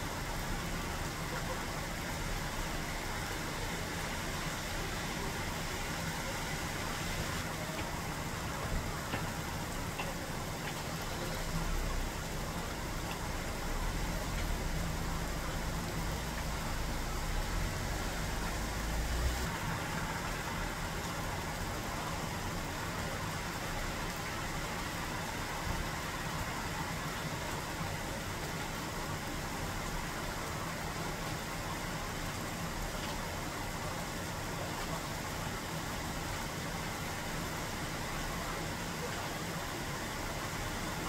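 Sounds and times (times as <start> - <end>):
rain falling on leaves: 0.0 - 41.0.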